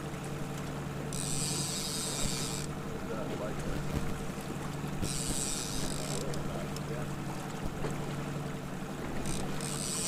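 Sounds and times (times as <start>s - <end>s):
boat motor humming: 0.0s - 10.0s
water noise: 0.0s - 10.0s
wind: 0.0s - 10.0s.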